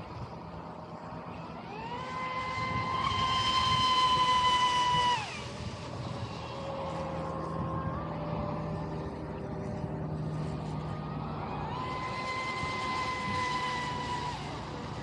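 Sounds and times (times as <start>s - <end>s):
electric boat motor whining: 0.0s - 15.0s.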